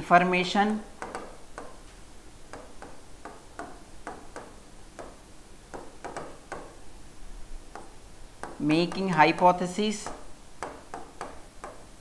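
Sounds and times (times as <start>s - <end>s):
marker pen writing on whiteboard: 0.4s - 6.9s, 7.6s - 12.0s.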